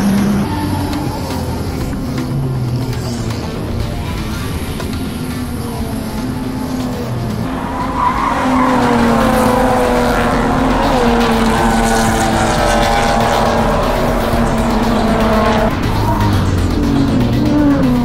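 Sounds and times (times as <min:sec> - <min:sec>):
race car engines at high revs: 0:00.0 - 0:18.0
tire squeal: 0:00.0 - 0:18.0.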